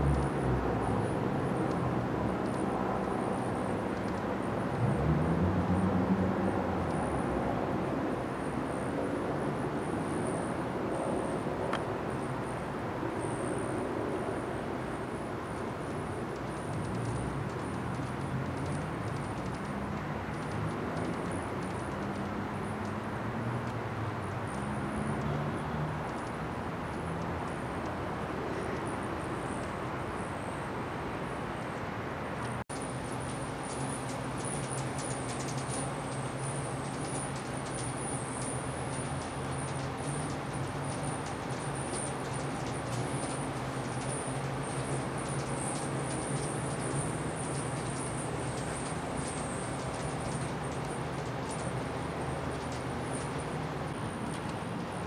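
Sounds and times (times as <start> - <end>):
outdoor rumble and hiss: 0.0 - 55.0.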